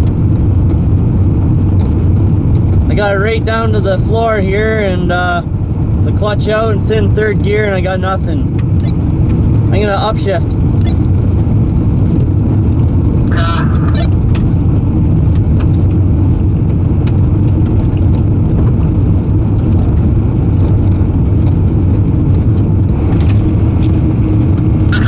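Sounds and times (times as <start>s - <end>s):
car rolling under tow rumble: 0.0s - 25.0s.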